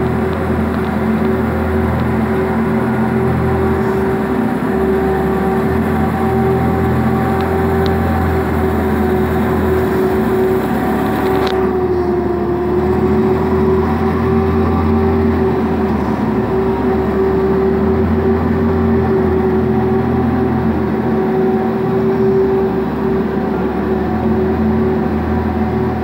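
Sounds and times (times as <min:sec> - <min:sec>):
ice resurfacer whining: 0:00.0 - 0:26.0.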